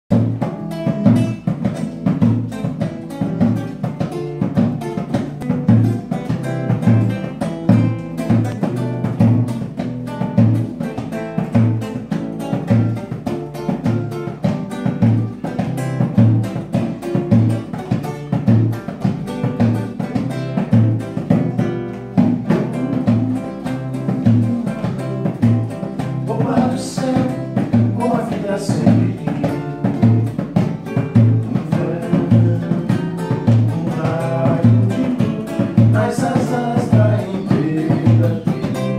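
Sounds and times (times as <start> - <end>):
strummed acoustic guitar: 0.1 - 38.9
wooden hand drum: 0.1 - 38.9.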